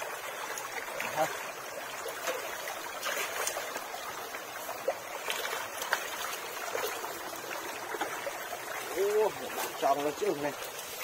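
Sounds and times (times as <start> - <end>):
muddy water trickling: 0.0 - 11.0.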